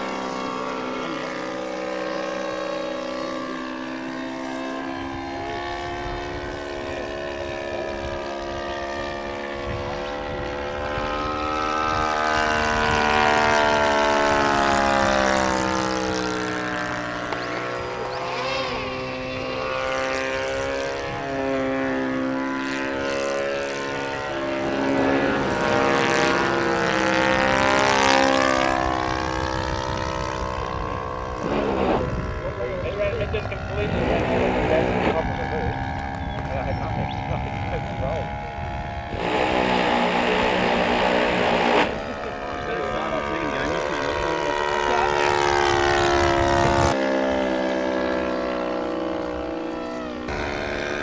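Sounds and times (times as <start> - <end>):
model plane engine and propeller: 0.0 - 51.0.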